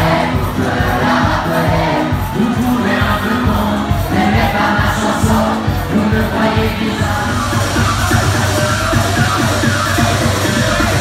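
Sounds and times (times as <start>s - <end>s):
crowd voices: 0.0s - 11.0s
loud dance music with singing: 0.0s - 11.0s.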